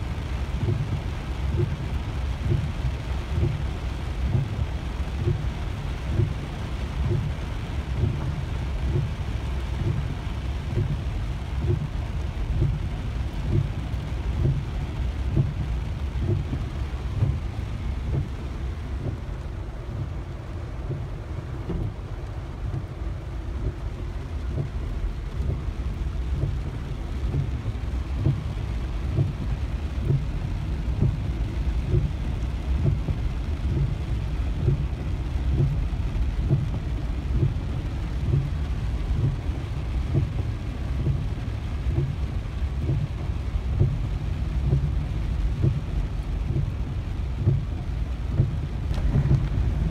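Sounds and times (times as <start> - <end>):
car engine low rumble: 0.0 - 49.9
heavy rain on car roof: 0.0 - 49.9.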